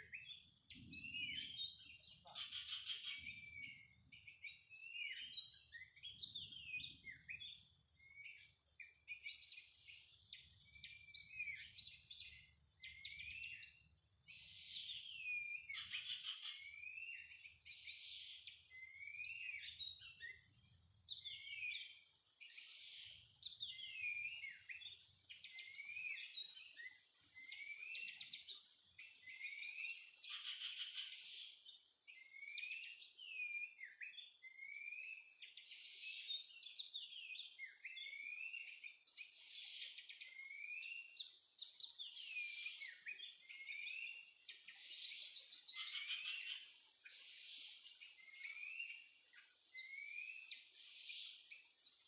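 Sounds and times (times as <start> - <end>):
songbird calling: 0.0 - 52.0.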